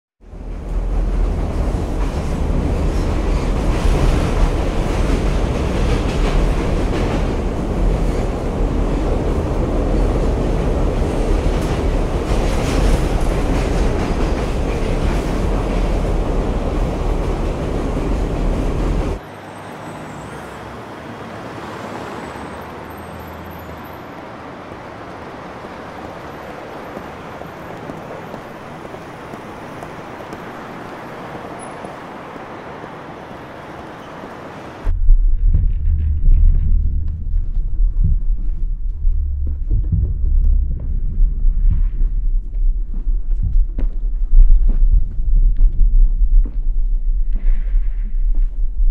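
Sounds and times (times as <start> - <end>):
train carriage rumbling on rails: 0.2 - 19.3, 21.1 - 35.0, 35.6 - 48.9
distant traffic: 0.2 - 48.5.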